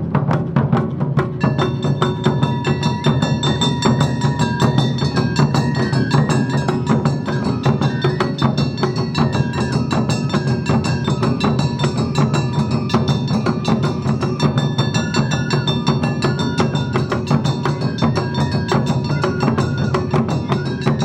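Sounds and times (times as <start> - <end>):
taiko drums beating: 0.0 - 21.0.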